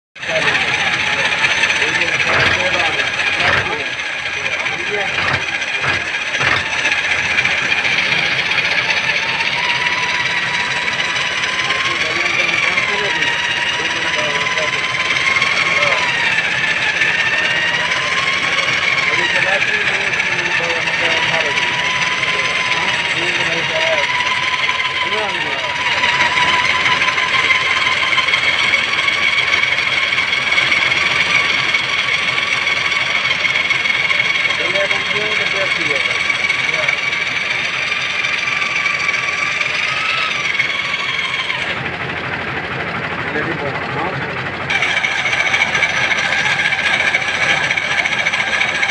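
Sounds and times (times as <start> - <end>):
metal-on-metal grinding: 0.2 - 42.3, 44.7 - 48.9
electric drill whine with low pulse: 0.3 - 48.9.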